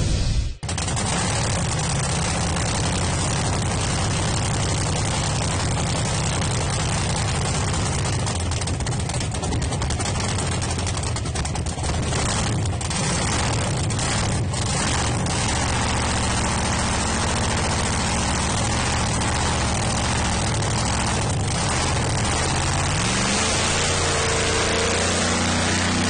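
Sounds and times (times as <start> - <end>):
heavy engine running: 0.0 - 26.0.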